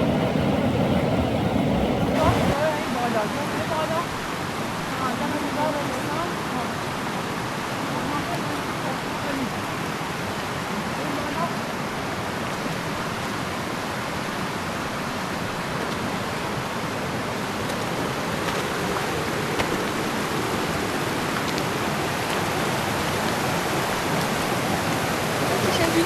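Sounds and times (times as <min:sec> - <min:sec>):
mountain river rushing: 0:00.0 - 0:26.0.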